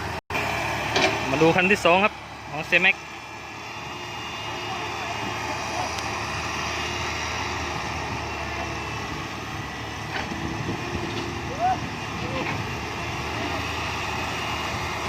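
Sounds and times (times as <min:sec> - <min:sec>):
dump truck engine running: 0:00.0 - 0:15.0.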